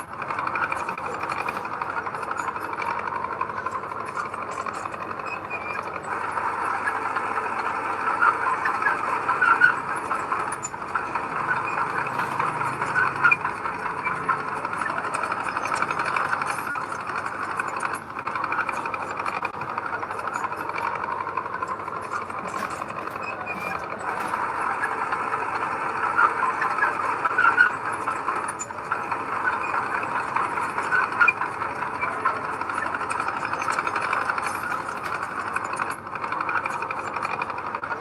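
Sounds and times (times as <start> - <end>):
diesel machinery running: 0.0 - 38.0.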